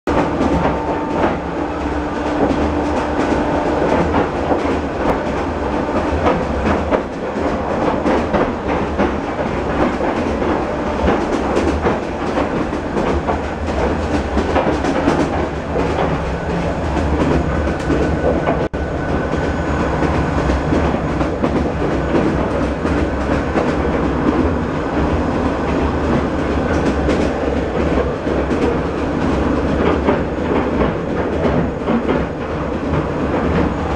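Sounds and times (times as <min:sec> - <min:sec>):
train rumbling on rails: 0:00.1 - 0:33.9.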